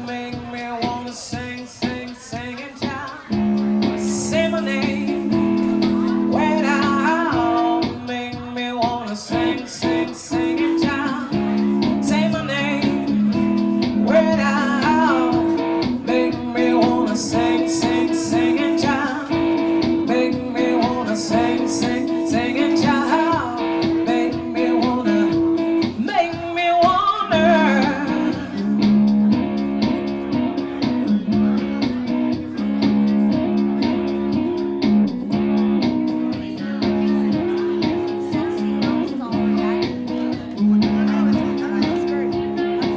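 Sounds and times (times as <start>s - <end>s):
person singing: 0.0s - 42.9s
solo guitar playing: 2.6s - 42.9s.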